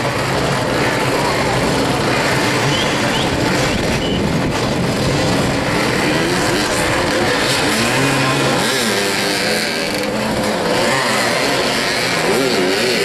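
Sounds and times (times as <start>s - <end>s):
motorcycles revving: 0.0s - 13.0s.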